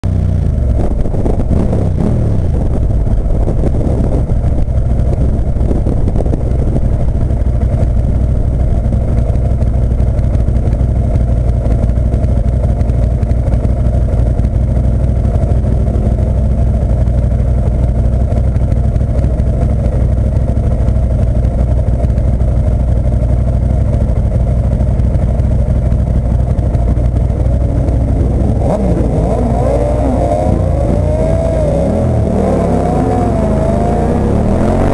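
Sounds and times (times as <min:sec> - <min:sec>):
motorcycle engine idling: 0:00.0 - 0:34.8.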